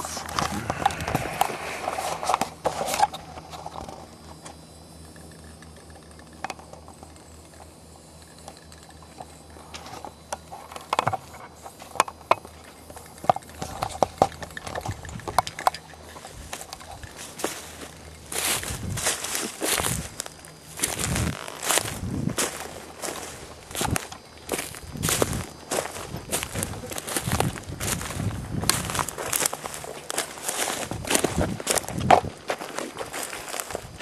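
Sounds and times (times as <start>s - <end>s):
footsteps on gravel and grass: 0.0s - 4.1s, 9.7s - 34.0s
low steady hum: 0.0s - 34.0s.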